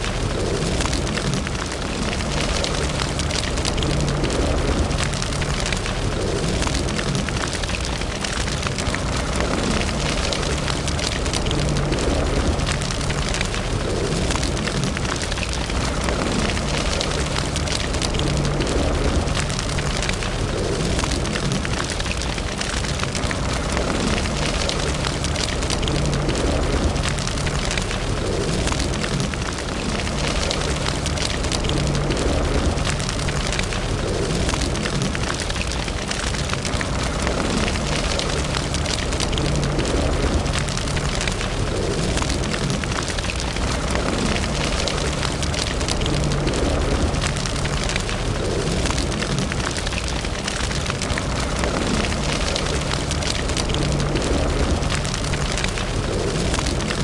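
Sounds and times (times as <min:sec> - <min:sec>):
fire crackling and popping: 0:00.0 - 0:57.0
low rush of flame: 0:00.0 - 0:57.0.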